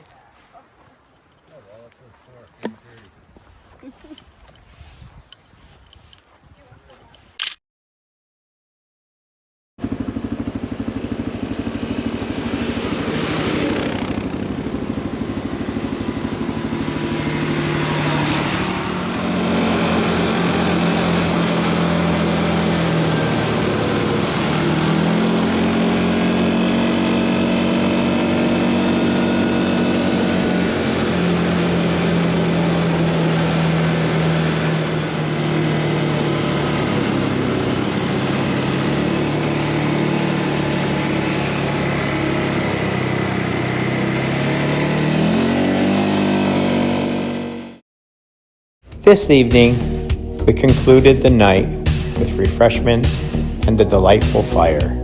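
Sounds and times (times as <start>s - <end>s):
atv engine running: 9.8s - 47.8s, 48.9s - 55.0s.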